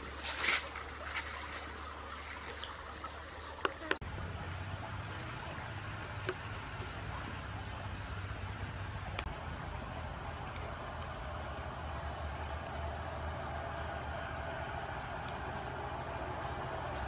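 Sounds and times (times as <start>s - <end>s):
insects: 0.0s - 17.0s
running water hiss: 0.0s - 17.0s.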